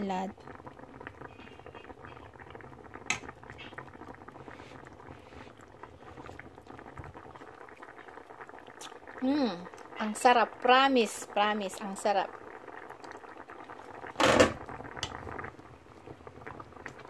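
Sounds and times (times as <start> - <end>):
broth boiling with bubbling pops: 0.0 - 17.0.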